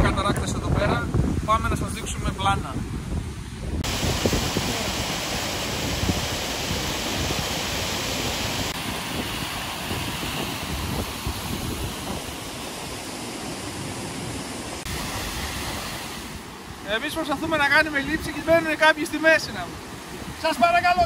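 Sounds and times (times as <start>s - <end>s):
cascading water rushing: 3.8s - 21.0s.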